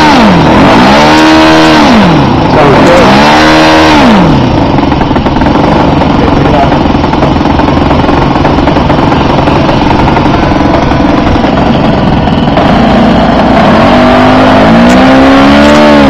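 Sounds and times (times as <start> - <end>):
model plane engine running: 0.0 - 16.0.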